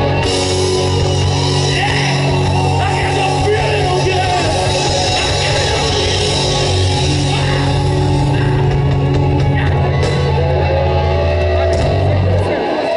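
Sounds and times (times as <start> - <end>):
live rock band playing: 0.0 - 12.9.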